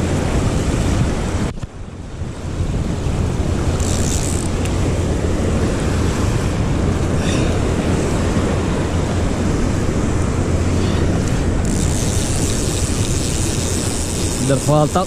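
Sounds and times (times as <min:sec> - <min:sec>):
surf washing over rocks: 0:00.0 - 0:15.0
wind buffeting microphone: 0:00.0 - 0:15.0.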